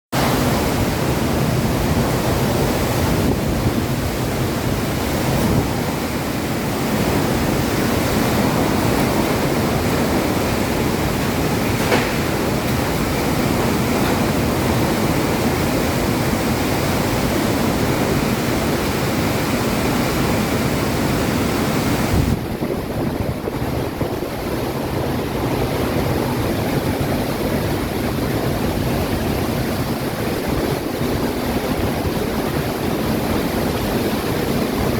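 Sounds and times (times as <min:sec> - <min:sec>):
wind gusts: 0:00.1 - 0:34.9
pouring rain: 0:00.2 - 0:34.9.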